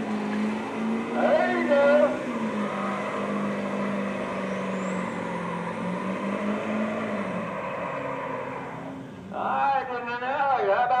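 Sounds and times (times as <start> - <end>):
engine revving high: 0.0 - 9.3
spinning tyres hissing: 0.0 - 9.6.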